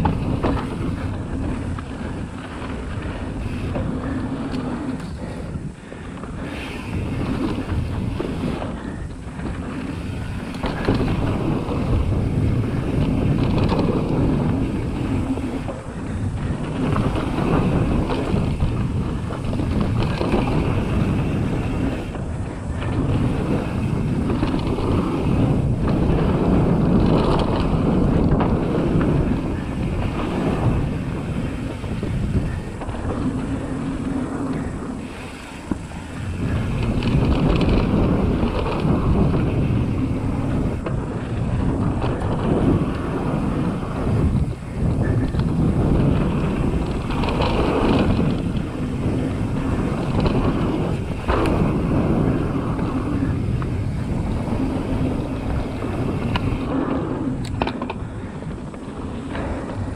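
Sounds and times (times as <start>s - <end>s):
bike rattling over bumps: 0.0s - 59.9s
tyres on loose dirt: 0.0s - 59.9s
wind buffeting microphone: 0.0s - 59.9s.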